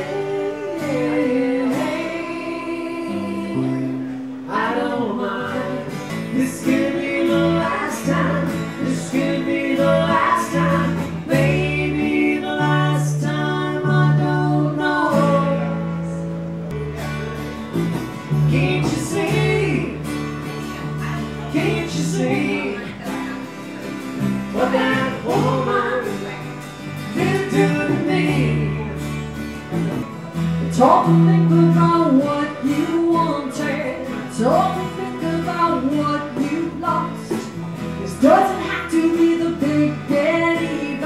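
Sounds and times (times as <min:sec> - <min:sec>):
person singing: 0:00.0 - 0:17.2, 0:18.2 - 0:20.2, 0:20.8 - 0:23.4, 0:24.3 - 0:29.2, 0:30.6 - 0:41.0
bass line: 0:00.0 - 0:41.0
strummed acoustic guitars: 0:00.0 - 0:41.0.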